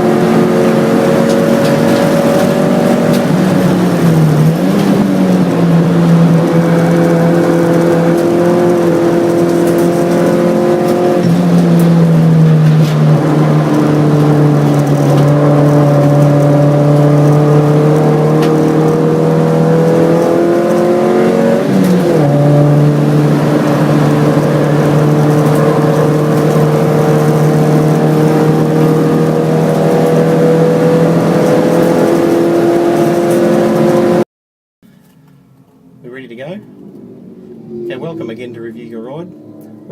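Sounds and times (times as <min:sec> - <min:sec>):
race car engine running hard: 0:00.0 - 0:34.2.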